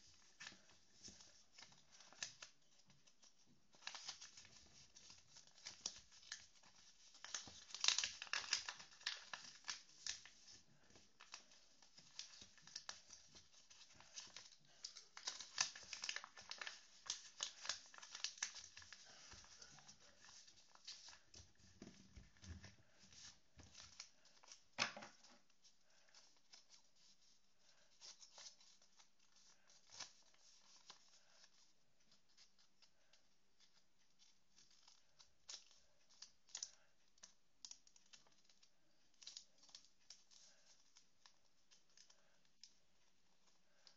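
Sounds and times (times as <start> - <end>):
paper folding and crinkling: 0.0 - 43.9.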